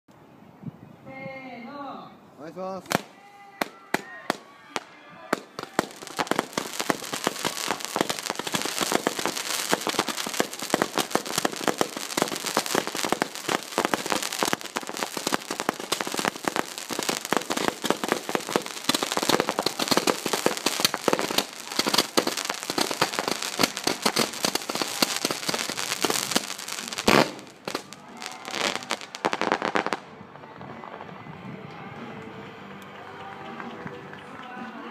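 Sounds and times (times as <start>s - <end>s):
fireworks crackling: 2.8s - 32.2s.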